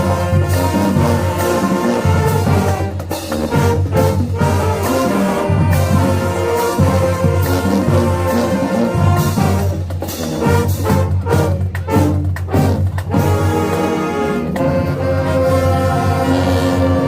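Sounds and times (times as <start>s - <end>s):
marching band brass playing: 0.0s - 17.0s.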